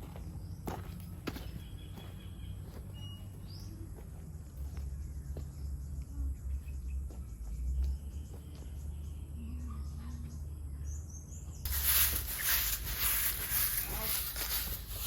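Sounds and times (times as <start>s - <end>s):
bird chirps: 0.1s - 12.4s.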